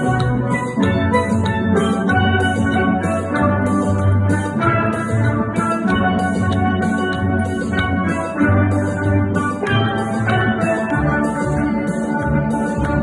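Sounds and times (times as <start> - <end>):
steel band playing: 0.0 - 13.0.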